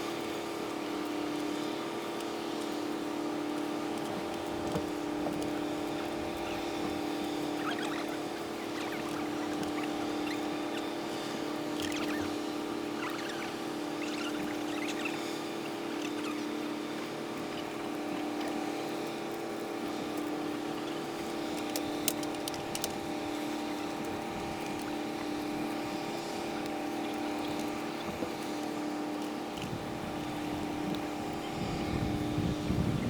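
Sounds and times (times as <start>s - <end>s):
boat engine droning: 2.4s - 33.0s.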